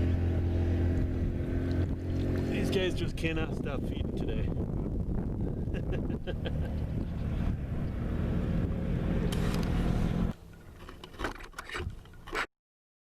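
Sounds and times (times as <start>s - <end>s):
boat motor humming: 0.0s - 3.4s, 4.0s - 12.5s.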